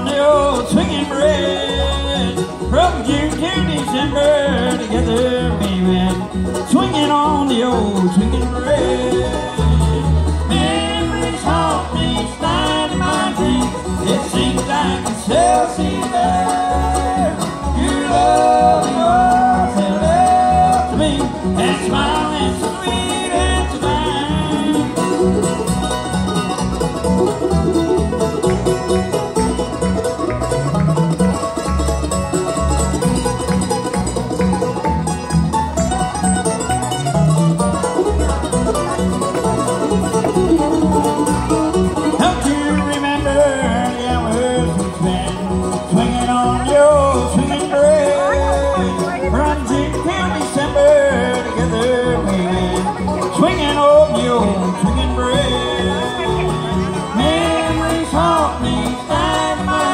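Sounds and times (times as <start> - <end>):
bluegrass band playing: 0.0 - 59.9.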